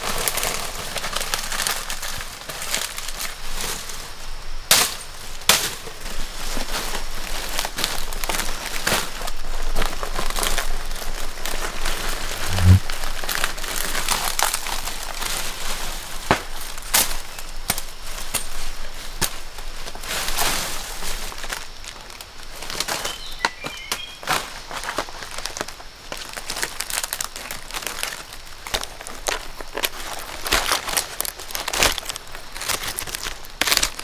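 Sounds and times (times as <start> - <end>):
dry fronds rustling and snapping: 0.0 - 34.0.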